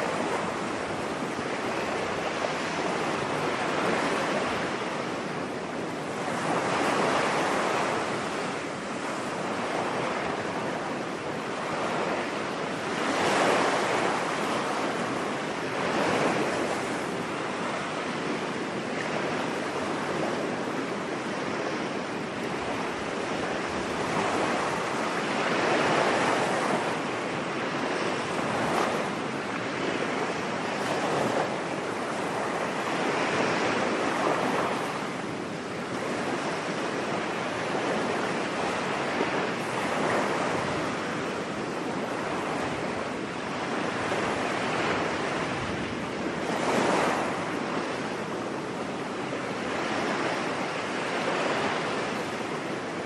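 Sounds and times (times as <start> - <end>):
ocean waves washing onto beach: 0.0 - 53.0.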